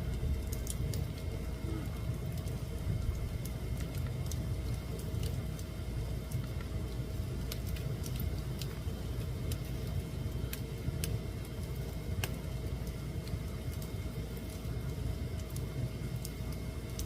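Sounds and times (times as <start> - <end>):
fire flames rumbling: 0.0 - 17.0
wood fire crackling and popping: 0.0 - 17.0.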